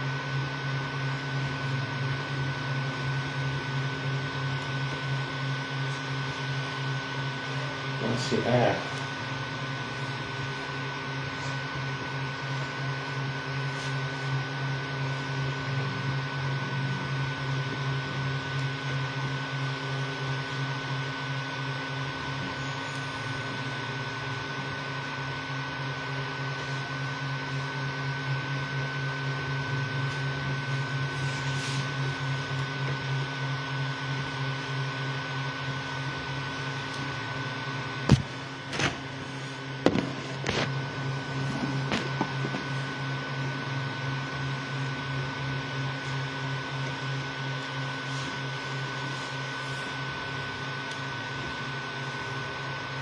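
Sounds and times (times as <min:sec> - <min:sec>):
fan noise with high whine: 0:00.0 - 0:53.0
printer motor hum pulsing: 0:00.0 - 0:53.0.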